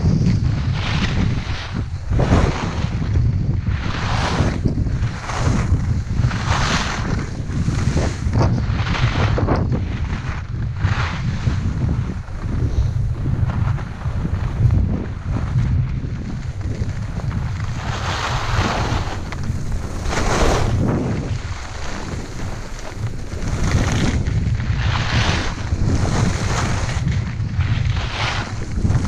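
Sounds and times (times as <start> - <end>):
skis scraping over snow: 0.0 - 29.0
wind rumbling on microphone: 0.0 - 29.0.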